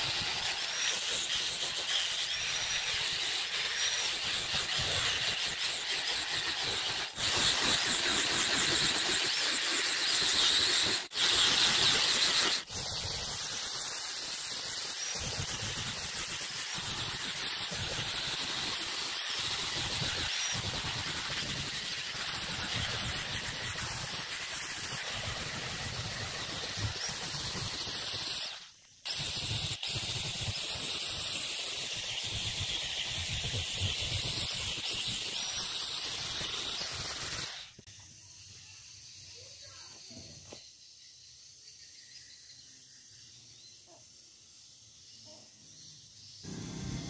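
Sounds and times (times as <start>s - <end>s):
spray gun hissing: 0.0s - 41.1s, 44.0s - 47.0s.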